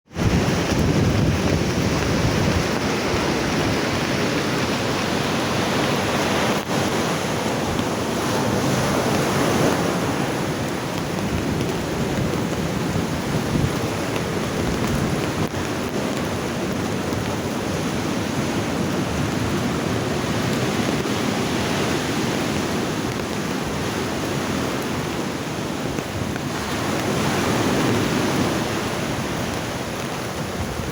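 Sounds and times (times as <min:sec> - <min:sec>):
heavy rain: 0:00.0 - 0:30.9
wind: 0:00.0 - 0:30.9.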